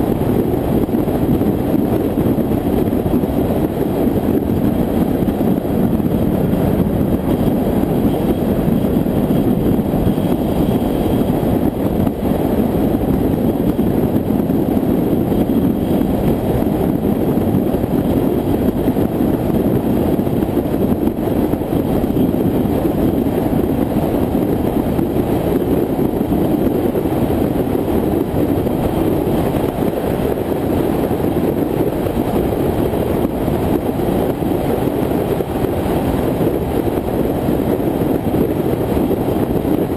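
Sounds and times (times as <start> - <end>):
wind and tyre road noise: 0.0 - 39.9
wind buffeting microphone: 0.0 - 39.9.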